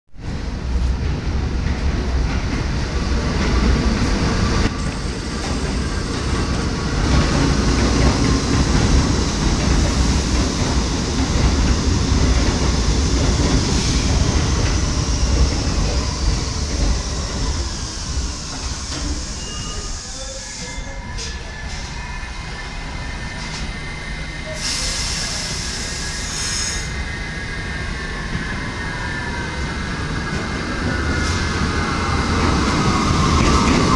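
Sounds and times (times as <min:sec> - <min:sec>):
subway train wheels rumbling: 0:00.1 - 0:33.9.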